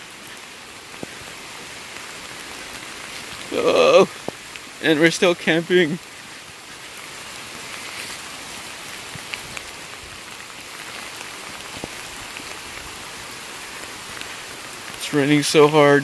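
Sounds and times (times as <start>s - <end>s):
heavy rain hissing: 0.0s - 16.0s
raindrops ticking close by: 0.0s - 16.0s.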